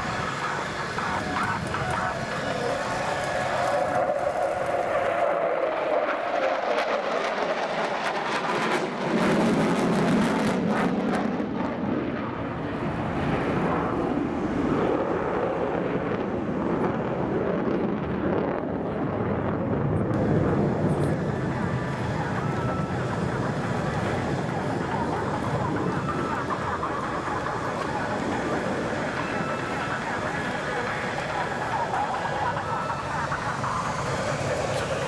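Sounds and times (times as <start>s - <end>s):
fighter jet passing: 0.0s - 35.0s.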